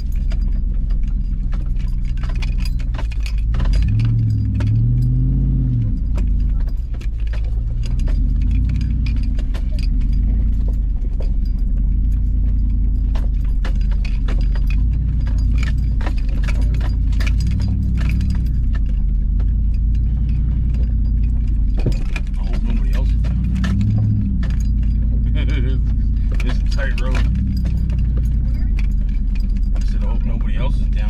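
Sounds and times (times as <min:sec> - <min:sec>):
engine low rumble: 0:00.0 - 0:31.0
rattles of loose items: 0:05.8 - 0:31.0.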